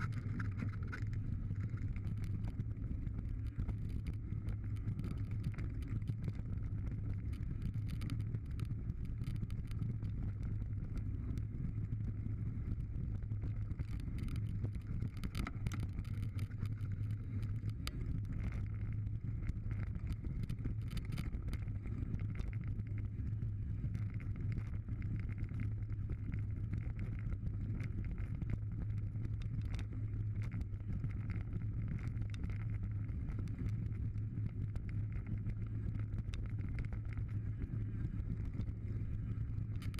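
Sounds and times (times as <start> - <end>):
bike tyres rumbling on gravel: 0.0 - 39.9.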